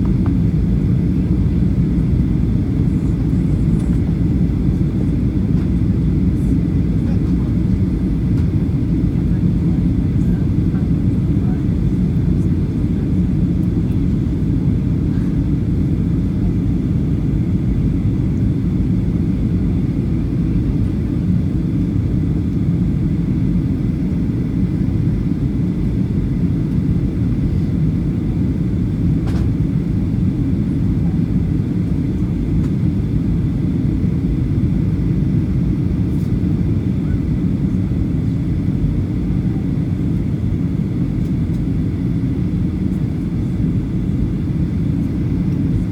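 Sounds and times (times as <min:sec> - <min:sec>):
aircraft cabin low rumble: 0:00.0 - 0:45.9.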